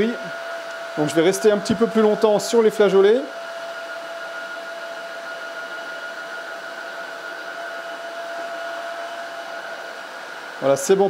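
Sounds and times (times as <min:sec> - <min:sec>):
floor washer suction motor whine: 0:00.0 - 0:11.0.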